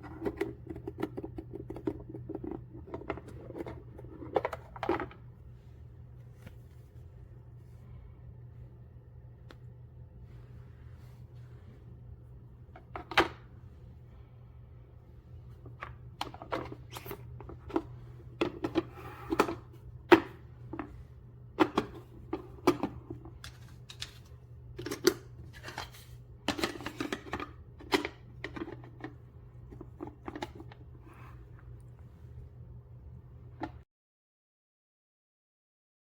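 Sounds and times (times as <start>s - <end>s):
steady low hum: 0.0s - 33.8s.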